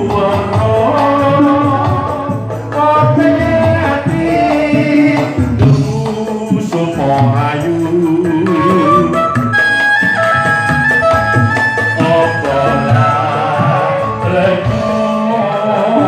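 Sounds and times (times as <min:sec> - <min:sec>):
man singing into microphone: 0:00.0 - 0:09.8, 0:11.7 - 0:16.0
loud amplified backing music: 0:00.0 - 0:16.0.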